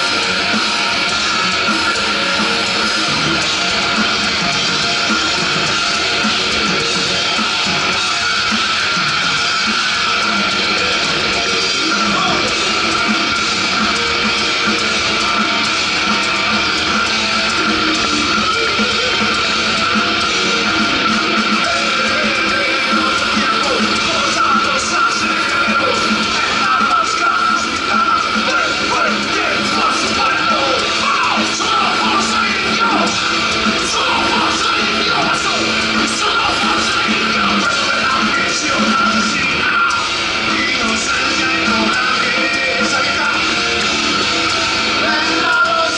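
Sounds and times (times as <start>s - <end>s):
heavy metal band playing live: 0.0s - 45.9s
shouted vocals: 0.0s - 45.9s.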